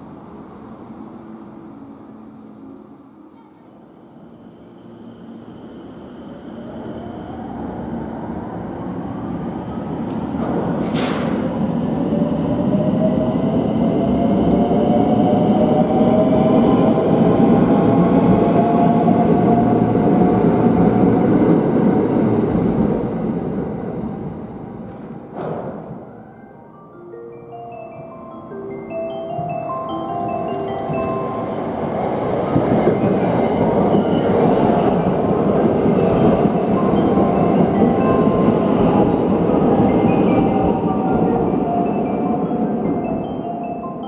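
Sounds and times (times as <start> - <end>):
electric train running past: 0.0 - 3.3, 3.9 - 44.0.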